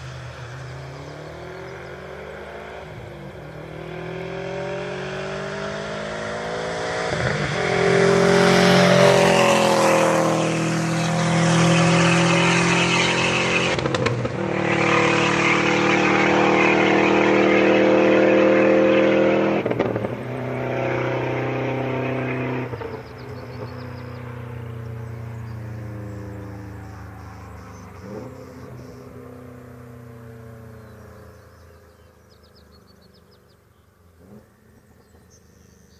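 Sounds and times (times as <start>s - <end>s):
loud car engine exhaust: 0.0s - 35.9s.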